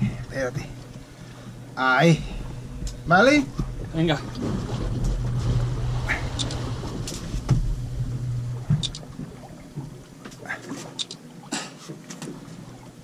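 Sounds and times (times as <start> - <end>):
low steady hum: 0.0 - 13.0
water lapping against boat hull: 0.0 - 13.0.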